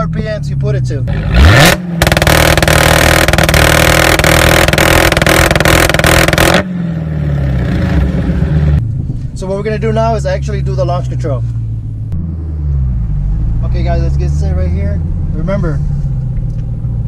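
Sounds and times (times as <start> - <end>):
car engine idling: 0.0 - 17.0
car engine revving: 0.6 - 17.0.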